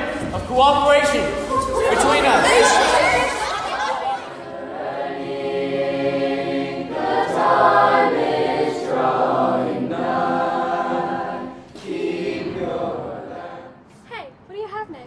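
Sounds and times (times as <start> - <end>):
choir singing held chords: 1.4 - 14.0.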